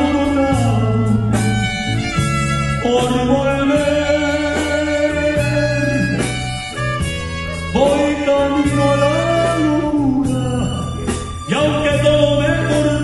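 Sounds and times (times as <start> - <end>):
guitar accompaniment: 0.0 - 13.0
man singing: 0.0 - 13.0.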